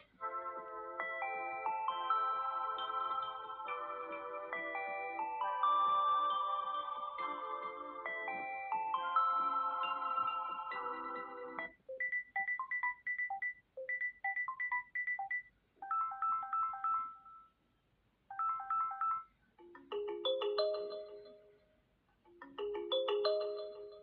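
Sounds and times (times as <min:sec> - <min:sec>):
bell-like synthesized ringtone: 0:00.0 - 0:17.6, 0:18.3 - 0:21.6, 0:22.6 - 0:24.0.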